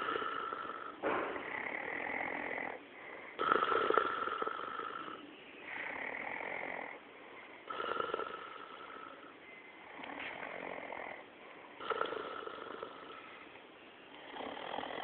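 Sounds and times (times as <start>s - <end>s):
man snoring: 0.0s - 7.0s, 7.7s - 9.3s, 9.9s - 11.2s, 11.8s - 13.3s, 14.2s - 15.0s.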